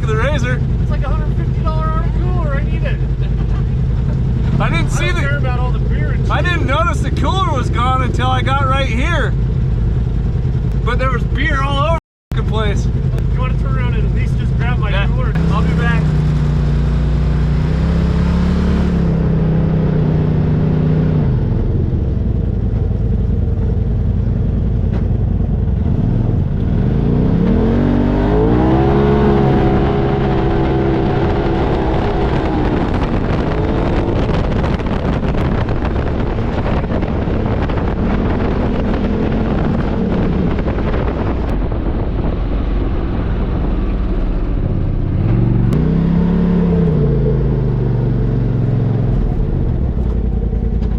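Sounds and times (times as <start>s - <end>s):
rumble of travel noise: 0.0s - 50.9s
utility vehicle engine revving: 0.0s - 50.9s.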